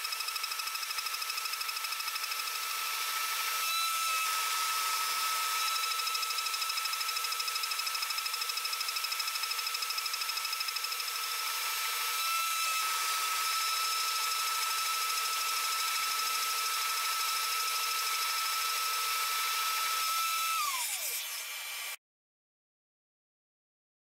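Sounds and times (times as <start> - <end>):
milling spindle whine: 0.0 - 22.0.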